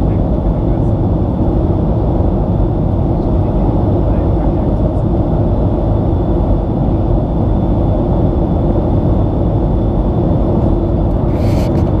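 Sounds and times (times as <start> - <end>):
airplane cabin engine roar: 0.0 - 12.0.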